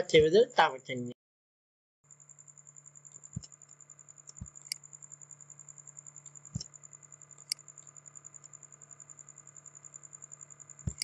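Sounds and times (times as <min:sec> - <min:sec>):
faint high-pitched ticking: 0:02.1 - 0:11.0
low electrical hum: 0:02.1 - 0:11.0.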